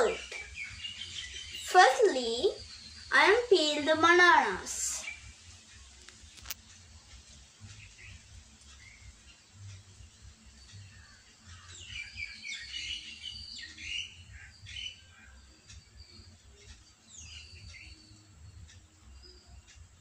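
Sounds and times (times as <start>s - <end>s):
birds chirping and calling: 0.0s - 6.9s, 7.6s - 20.0s.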